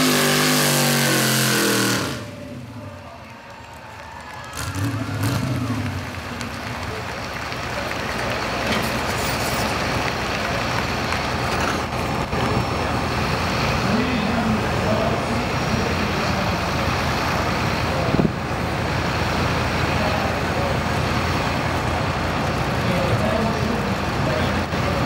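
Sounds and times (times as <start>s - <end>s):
truck engine running loudly: 0.0s - 25.0s.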